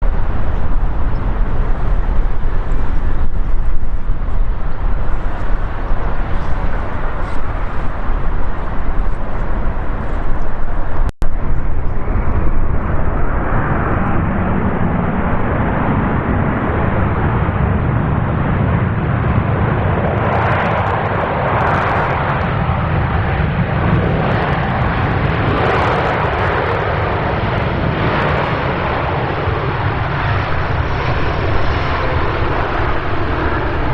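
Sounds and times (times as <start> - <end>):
jet engine rumble: 0.0 - 33.9.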